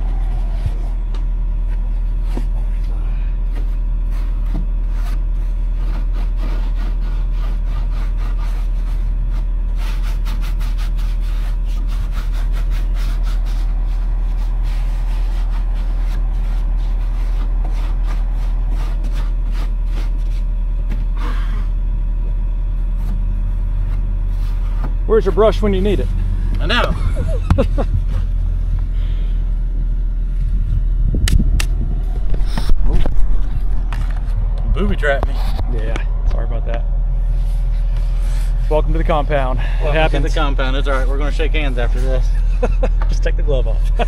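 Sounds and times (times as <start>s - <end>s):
heavy equipment engine running: 0.0s - 7.9s, 10.7s - 44.0s.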